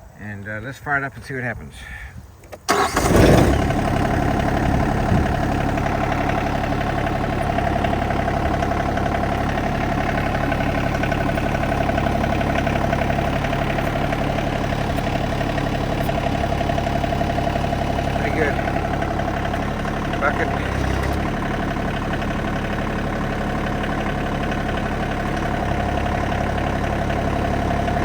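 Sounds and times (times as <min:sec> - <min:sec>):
diesel tractor engine starting: 0:02.6 - 0:28.0
diesel engine idling: 0:02.7 - 0:28.0.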